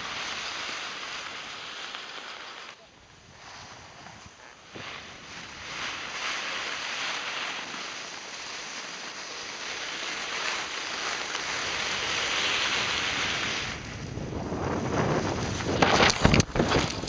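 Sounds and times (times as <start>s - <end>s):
skis hissing on snow: 0.0s - 14.1s.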